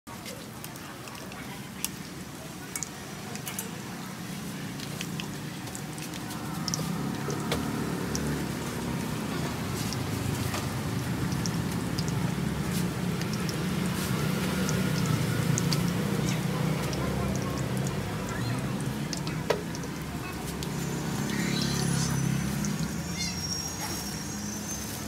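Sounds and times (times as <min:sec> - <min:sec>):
oil sizzling and popping: 0:00.1 - 0:25.0.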